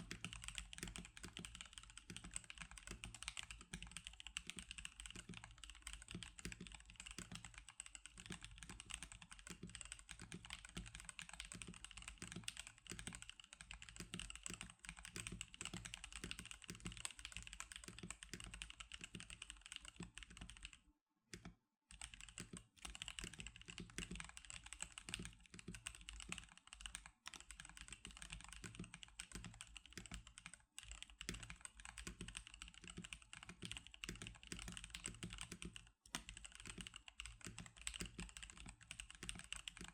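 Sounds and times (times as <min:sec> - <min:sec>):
fast typing on mechanical keyboard: 0:00.0 - 0:20.8, 0:21.4 - 0:39.9.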